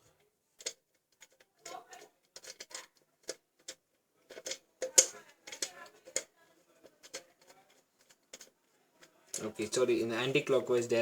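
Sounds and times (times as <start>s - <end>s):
small metal clicks and taps: 0.0s - 9.6s.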